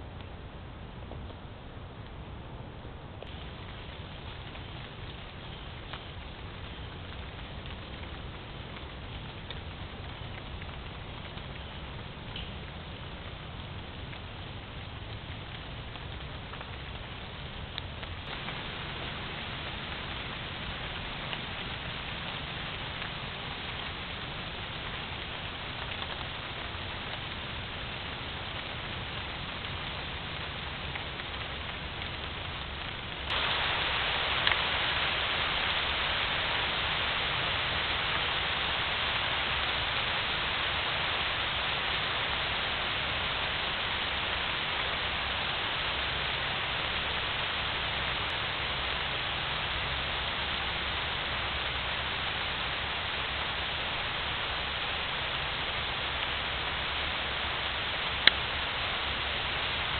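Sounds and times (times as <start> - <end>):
rain on leaves and grass: 0.0 - 59.9.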